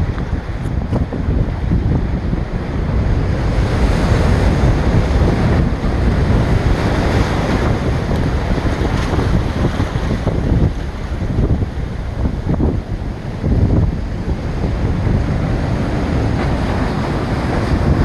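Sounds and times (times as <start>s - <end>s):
surf breaking against rocks: 0.0s - 18.0s
wind buffeting microphone: 0.0s - 18.0s.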